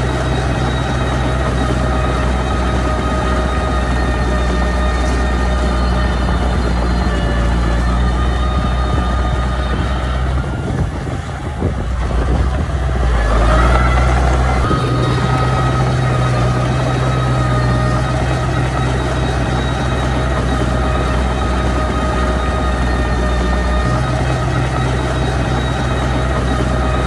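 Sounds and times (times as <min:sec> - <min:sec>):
bulldozer diesel engine under load: 0:00.0 - 0:27.0.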